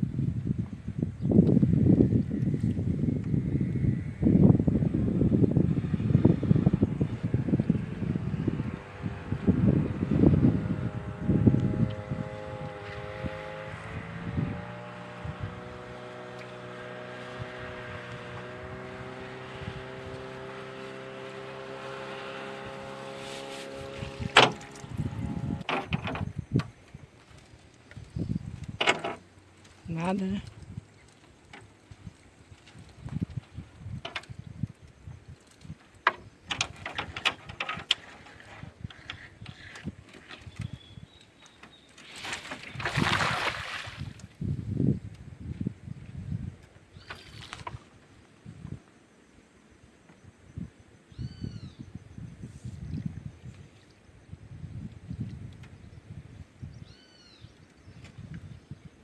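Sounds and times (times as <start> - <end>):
light wind noise: 0.0 - 59.0
motorboat engine running: 0.1 - 48.0.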